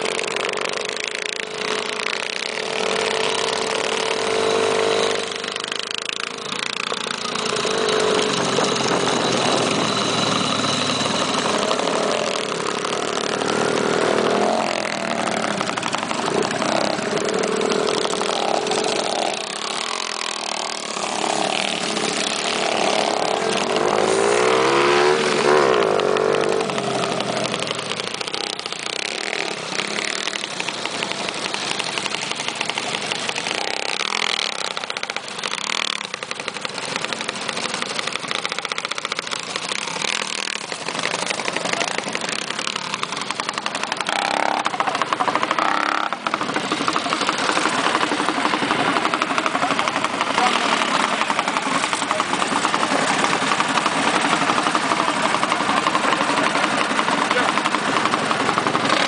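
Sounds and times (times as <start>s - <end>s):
minibike engines revving: 0.0s - 59.0s.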